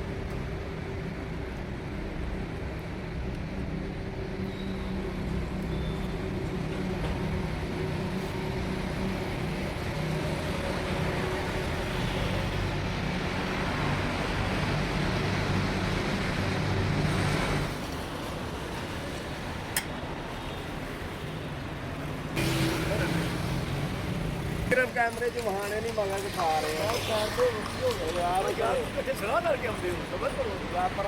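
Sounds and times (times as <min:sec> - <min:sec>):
road traffic rushing: 0:00.0 - 0:31.0.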